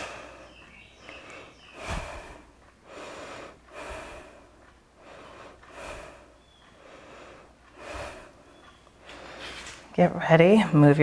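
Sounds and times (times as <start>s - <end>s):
woman breathing hard: 0.0s - 9.8s.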